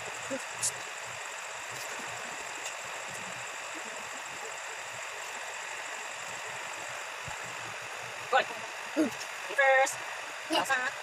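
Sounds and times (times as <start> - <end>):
room noise hiss: 0.0 - 11.0
thin high whine: 0.0 - 11.0.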